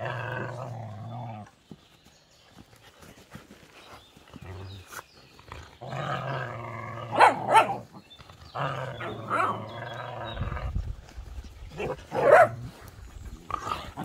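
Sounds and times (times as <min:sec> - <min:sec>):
dogs play growling: 0:00.0 - 0:01.7, 0:04.3 - 0:14.0.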